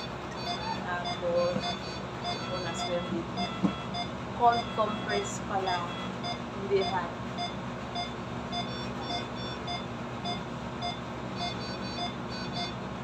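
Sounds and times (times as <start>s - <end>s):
short electronic beeps: 0.0s - 5.2s, 5.8s - 12.8s
low machine hum: 0.0s - 13.0s.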